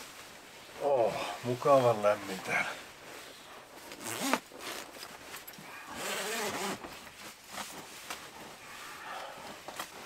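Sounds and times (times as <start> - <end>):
sleeping bag rustling: 0.0 - 10.0.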